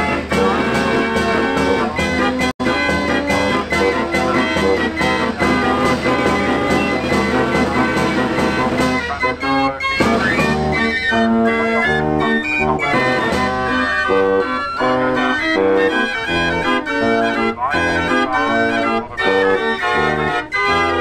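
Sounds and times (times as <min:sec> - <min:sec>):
fair organ playing oom-pah tune: 0:00.0 - 0:21.0.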